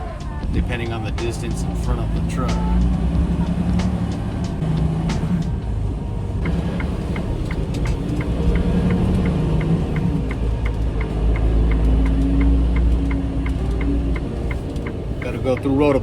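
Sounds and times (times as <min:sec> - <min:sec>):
diesel engine rumbling: 0:00.0 - 0:16.0
hazard indicator ticking: 0:00.0 - 0:16.0.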